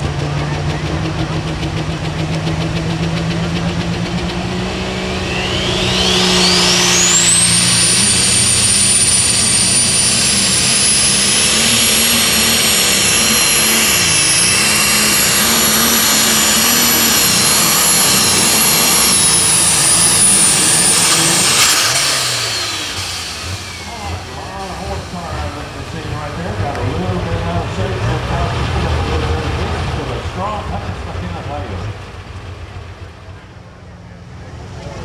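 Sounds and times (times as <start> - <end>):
diesel tractor engine at full load: 0.0 - 35.0
high turbo whine: 0.0 - 35.0.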